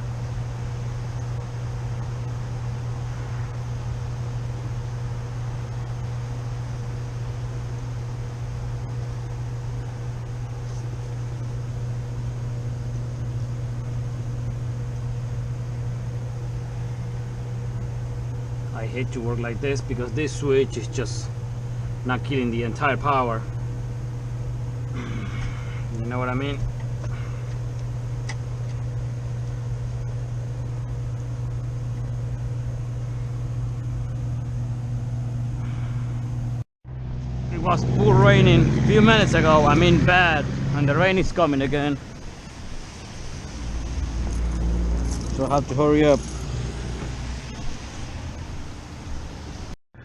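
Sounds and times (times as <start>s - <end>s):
air conditioning hum: 0.0s - 49.8s.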